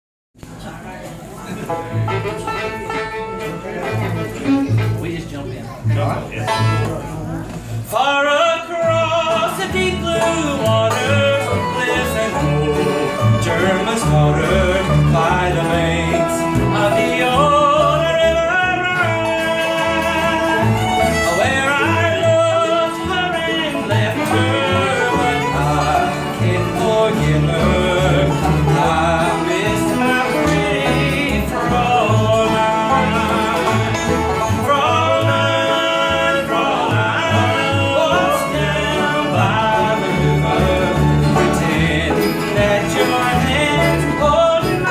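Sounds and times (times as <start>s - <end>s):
country band playing: 0.4s - 44.9s
guitar: 0.4s - 44.9s
fiddle: 8.7s - 44.9s.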